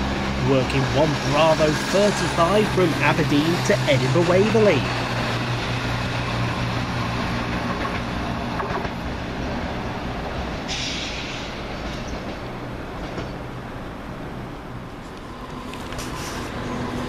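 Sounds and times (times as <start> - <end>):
diesel train passing at speed: 0.0 - 17.0.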